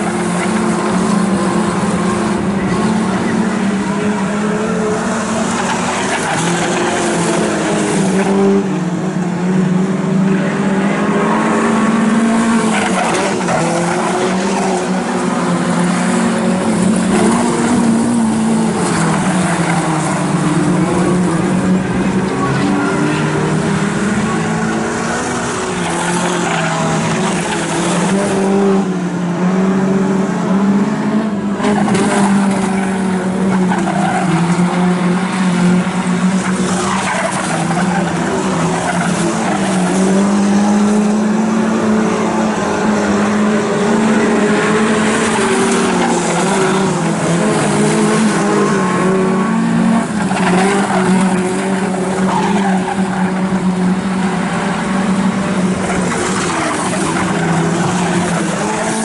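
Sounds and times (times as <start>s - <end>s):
racing car engines droning: 0.0s - 59.0s.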